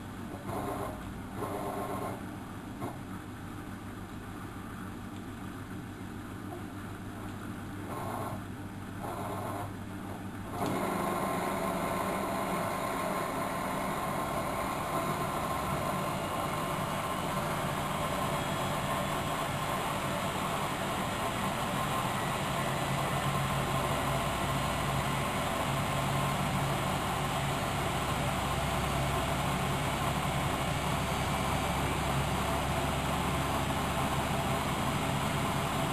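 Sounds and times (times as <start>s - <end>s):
washing machine running: 0.0s - 4.9s, 7.6s - 35.9s.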